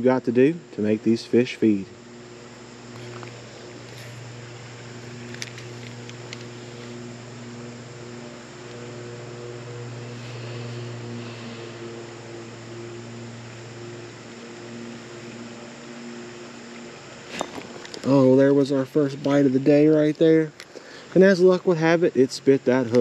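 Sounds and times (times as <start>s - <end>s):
fishing reel gears humming: 0.0s - 23.0s
creek water hissing: 1.3s - 22.8s.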